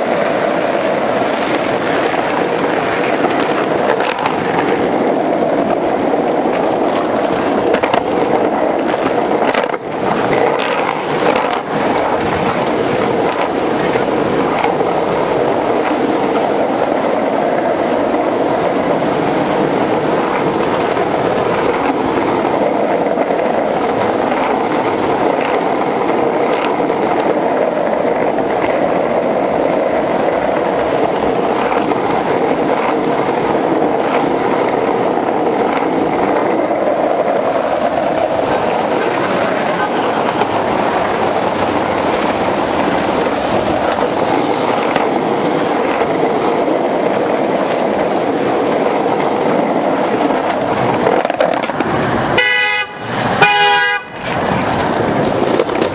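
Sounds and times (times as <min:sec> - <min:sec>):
skateboard wheels rolling on pavement: 0:00.0 - 0:55.9.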